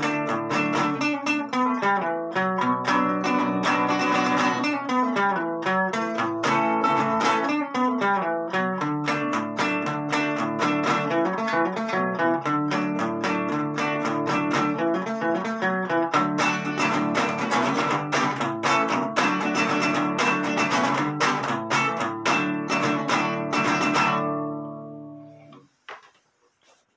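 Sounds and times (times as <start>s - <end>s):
classical guitar strumming chords: 0.0s - 25.6s.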